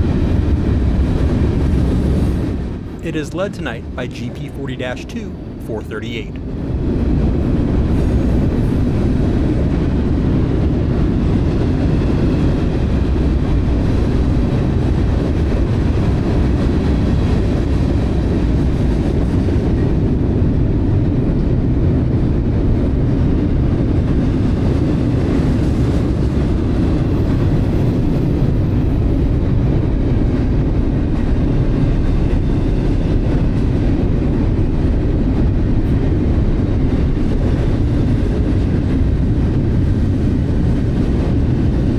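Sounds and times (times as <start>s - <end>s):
freight train rumbling on rails: 0.0s - 3.0s, 6.4s - 41.9s.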